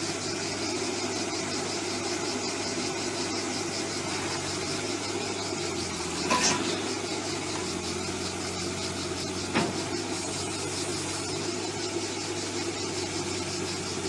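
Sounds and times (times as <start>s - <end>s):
heavy machine engine running: 0.0s - 14.0s.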